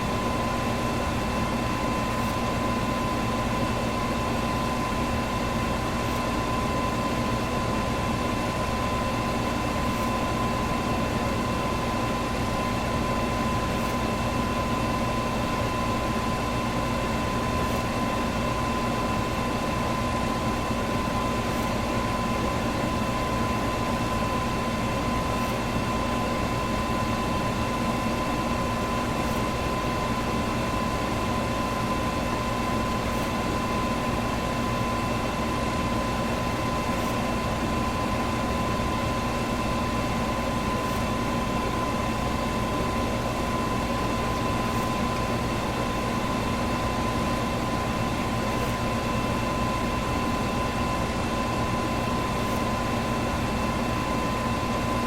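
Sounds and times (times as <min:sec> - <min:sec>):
fan motor hum: 0:00.0 - 0:55.0.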